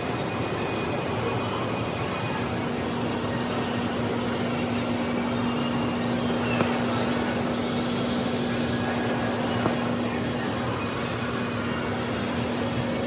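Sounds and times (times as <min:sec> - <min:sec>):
air-conditioning hum: 0:00.0 - 0:13.0.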